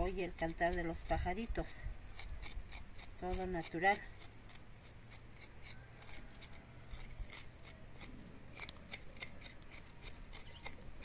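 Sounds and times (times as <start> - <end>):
knife scraping vegetable skin: 0.0 - 11.0.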